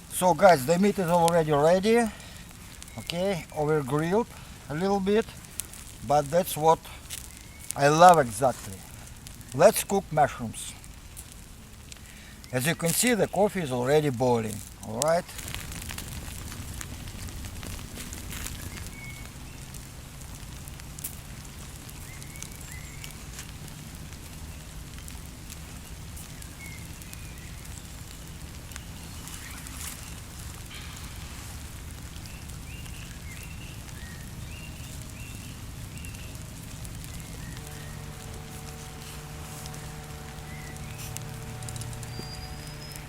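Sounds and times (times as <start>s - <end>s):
campfire crackling: 0.0s - 43.0s
sharp pops of fire: 0.0s - 43.0s.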